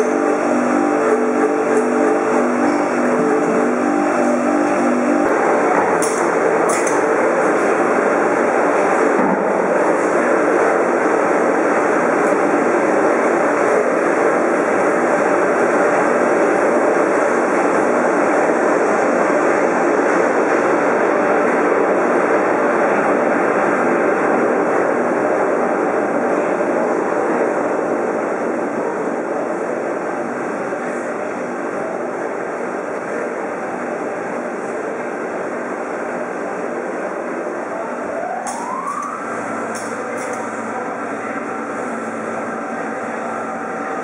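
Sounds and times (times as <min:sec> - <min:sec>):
sausage filling machine running: 0:00.0 - 0:44.0.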